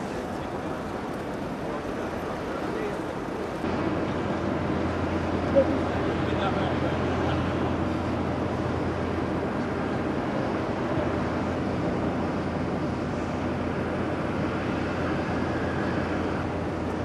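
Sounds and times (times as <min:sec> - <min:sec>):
aircraft rumble: 0:00.0 - 0:17.0.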